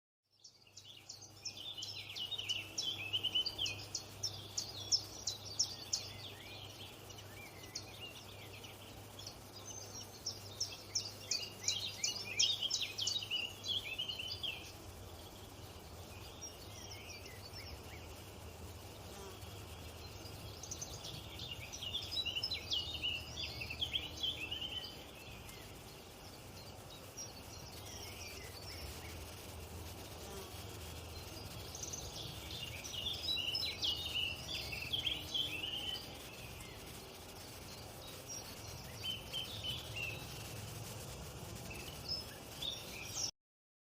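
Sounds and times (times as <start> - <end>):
small birds chirping: 0.2 - 43.3.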